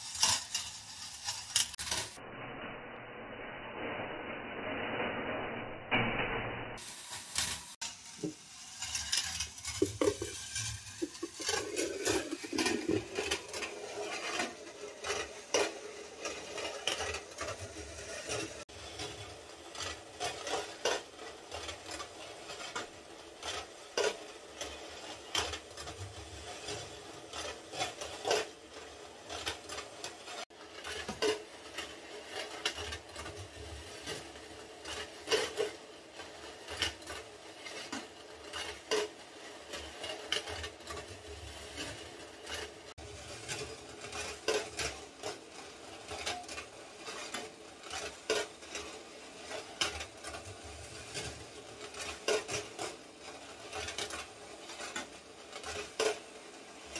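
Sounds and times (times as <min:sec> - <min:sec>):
steel balls rolling on wire: 0:00.0 - 0:06.2, 0:06.8 - 0:56.9.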